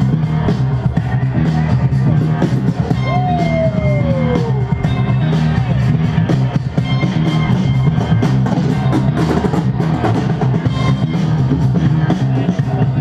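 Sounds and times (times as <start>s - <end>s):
heavy bass: 0.0s - 13.0s
loud music with drum beat: 0.0s - 13.0s.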